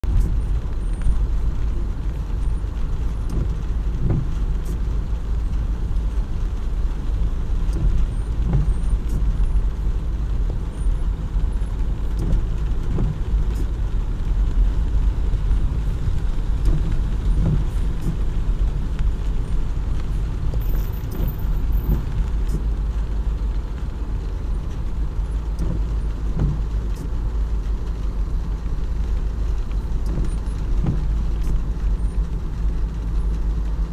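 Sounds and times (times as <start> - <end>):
road traffic rumble: 0.0 - 33.9.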